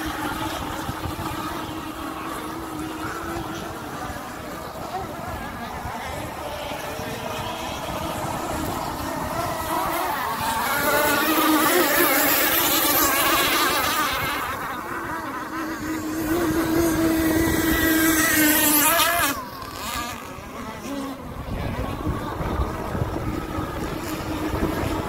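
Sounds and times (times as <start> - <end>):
two-stroke engines racing at high revs: 0.0 - 25.0.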